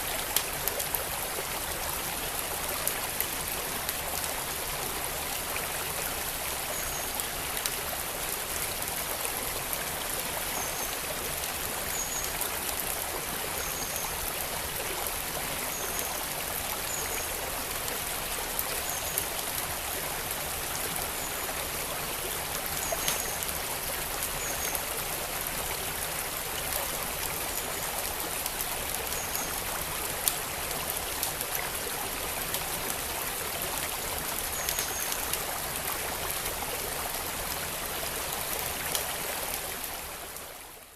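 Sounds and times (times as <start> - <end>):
flowing creek: 0.0 - 40.9.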